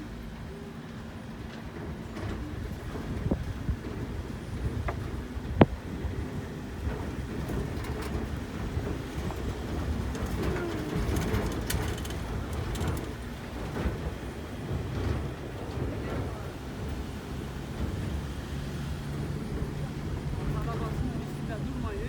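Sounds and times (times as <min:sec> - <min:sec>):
car tyres and engine rumble: 0:00.0 - 0:22.0.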